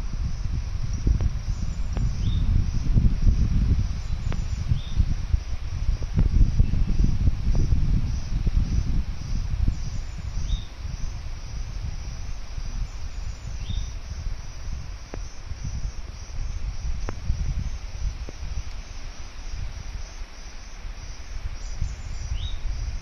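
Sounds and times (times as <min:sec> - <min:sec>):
insect trilling: 0:00.1 - 0:23.0.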